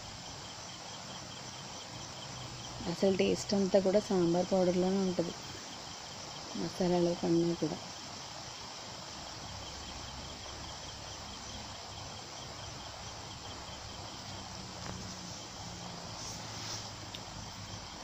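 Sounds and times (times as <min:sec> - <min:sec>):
cricket chirping: 0:00.0 - 0:18.0
fish roe frying hiss: 0:00.0 - 0:18.0.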